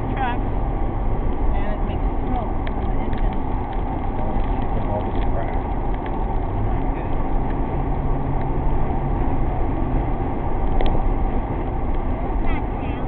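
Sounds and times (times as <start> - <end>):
faint engine hum: 0.0 - 13.0
vehicle engine and road rumble: 0.0 - 13.0.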